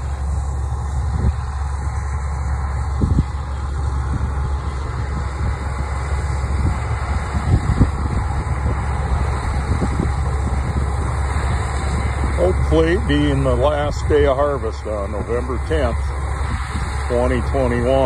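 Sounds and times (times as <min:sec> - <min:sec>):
low machinery rumble: 0:00.0 - 0:18.0.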